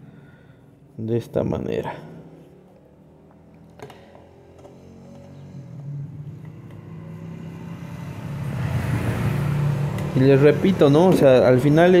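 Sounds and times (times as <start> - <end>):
motor vehicle engine hum: 1.8 - 12.0.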